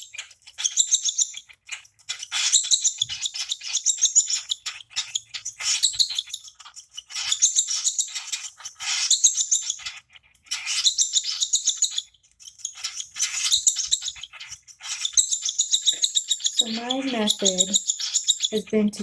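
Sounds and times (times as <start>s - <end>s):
baby bird begging calls: 0.0s - 19.0s.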